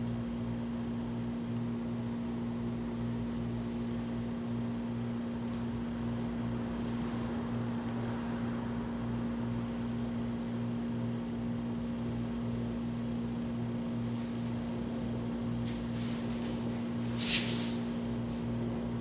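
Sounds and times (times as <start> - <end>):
low throbbing mechanical hum: 0.0 - 19.0.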